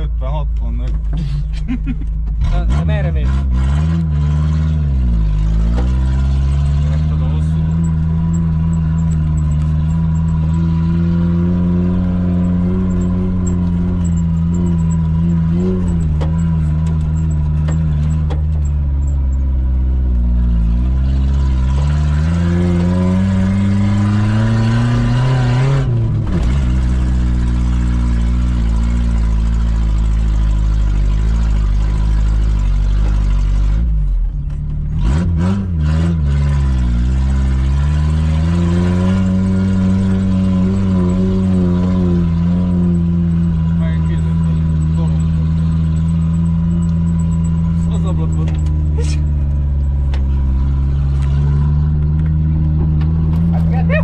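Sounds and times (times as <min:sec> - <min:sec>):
engine revs rising and falling: 0:02.4 - 0:34.0, 0:34.9 - 0:54.0.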